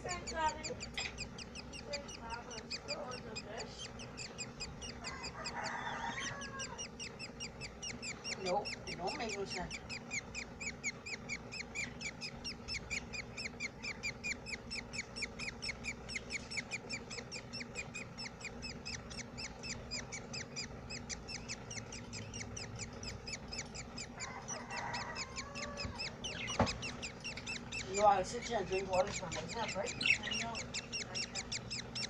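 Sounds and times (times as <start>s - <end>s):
budgies chirping: 0.0s - 32.0s.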